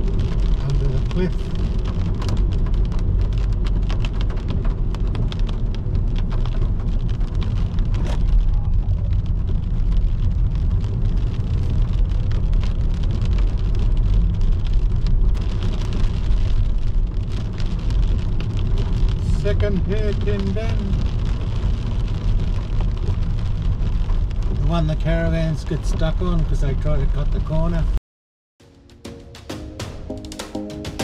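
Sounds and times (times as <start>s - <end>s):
rain tapping on car: 0.0s - 27.9s
car driving on wet road: 0.0s - 28.0s.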